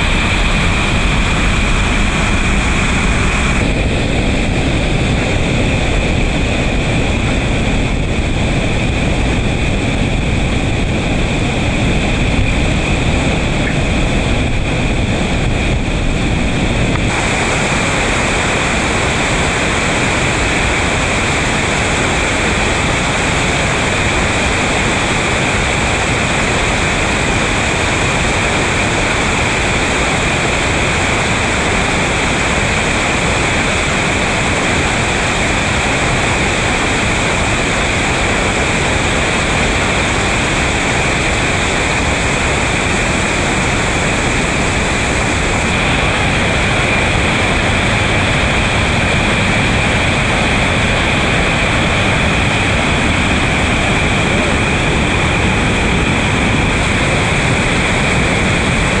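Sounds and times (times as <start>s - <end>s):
whitewater rapids rushing: 0.0s - 59.0s.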